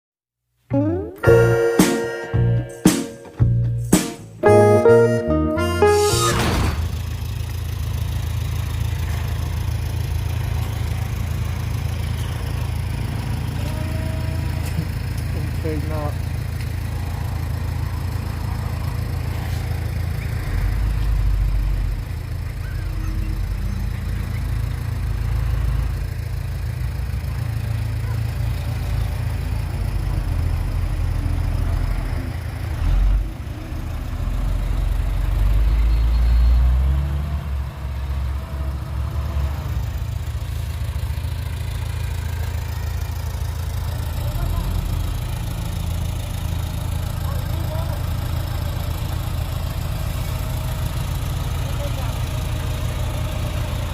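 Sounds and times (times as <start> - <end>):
heavy diesel engine running: 0.7 - 53.9.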